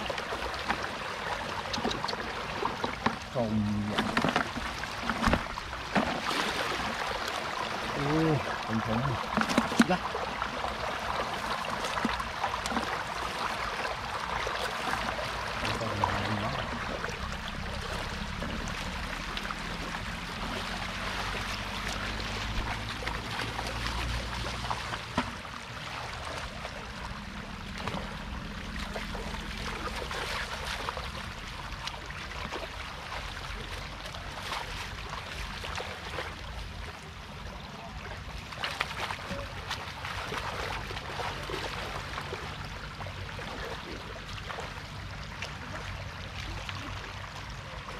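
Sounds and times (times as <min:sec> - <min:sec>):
floodwater rushing: 0:00.0 - 0:47.9
small water splashes: 0:00.0 - 0:47.9.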